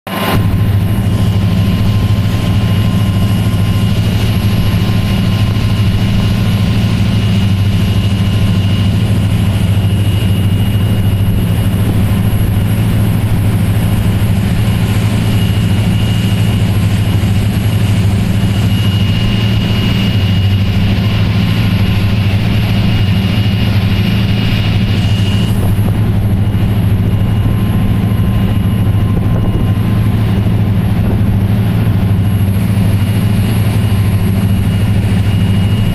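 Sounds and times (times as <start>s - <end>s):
motor boat engine droning: 0.1s - 35.9s.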